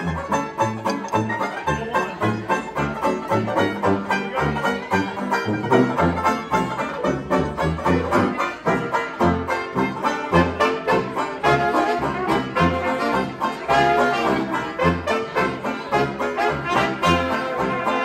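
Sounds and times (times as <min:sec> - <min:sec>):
jazz band playing: 0:00.0 - 0:18.0
sousaphone bass notes: 0:00.0 - 0:18.0
strummed banjo: 0:00.0 - 0:18.0.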